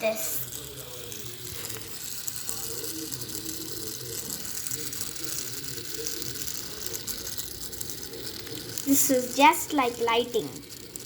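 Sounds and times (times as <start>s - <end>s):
fidget spinner clicking rattle: 0.0s - 11.0s.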